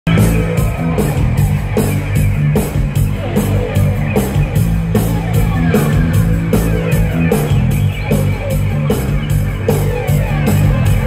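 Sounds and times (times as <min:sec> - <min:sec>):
live rock band playing: 0:00.0 - 0:11.0
steady drum beat: 0:00.0 - 0:11.0
sustained bass line: 0:00.0 - 0:11.0.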